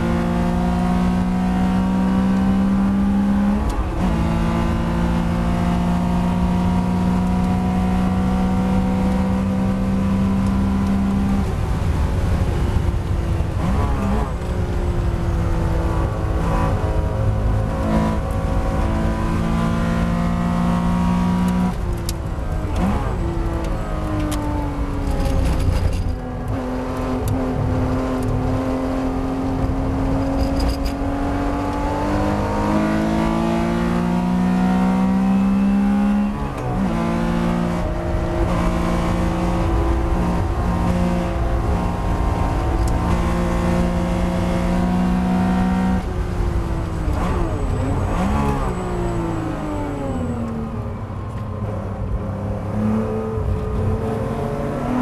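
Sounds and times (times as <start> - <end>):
car engine revving under load: 0.0 - 55.0.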